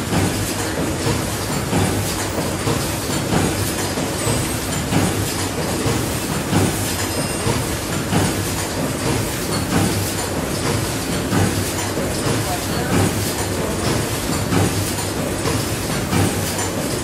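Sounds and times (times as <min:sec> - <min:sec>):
machines clattering: 0:00.0 - 0:17.0.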